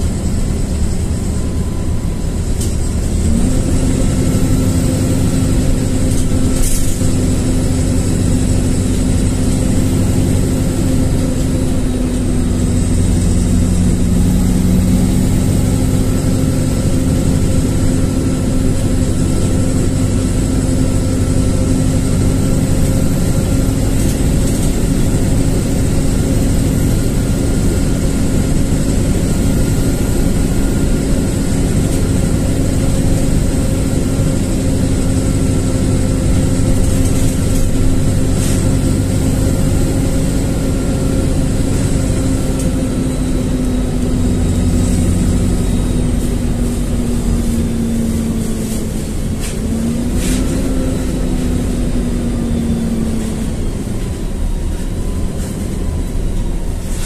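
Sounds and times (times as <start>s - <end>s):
bus engine humming: 0.0s - 57.0s.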